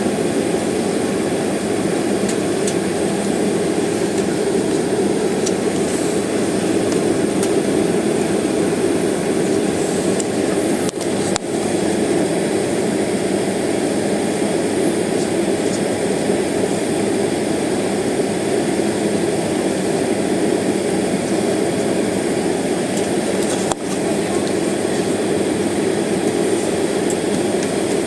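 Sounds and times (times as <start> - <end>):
airliner cabin engine rush: 0.0 - 28.0
high engine whine: 0.0 - 28.0.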